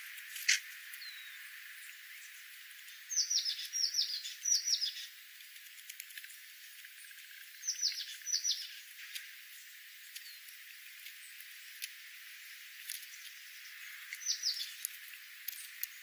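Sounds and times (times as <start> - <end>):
steady hiss: 0.0 - 16.0
small bird calling: 0.4 - 5.2, 7.0 - 16.0.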